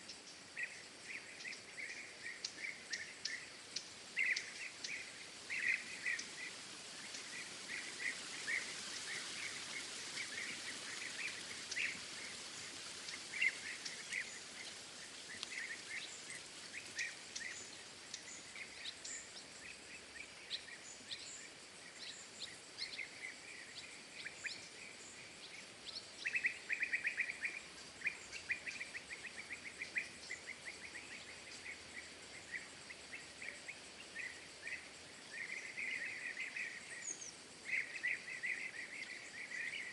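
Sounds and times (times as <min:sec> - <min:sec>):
small birds chirping and trilling: 0:00.0 - 0:39.9
steady background hiss: 0:00.0 - 0:39.9.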